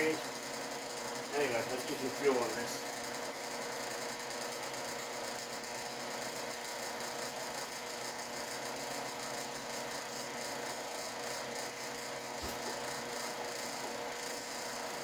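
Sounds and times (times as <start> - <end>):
electric fan whirring: 0.0 - 15.0.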